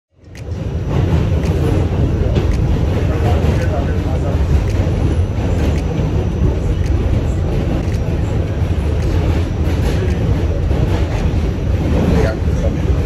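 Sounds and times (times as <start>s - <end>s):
subway train wheels rumbling: 0.1s - 13.0s.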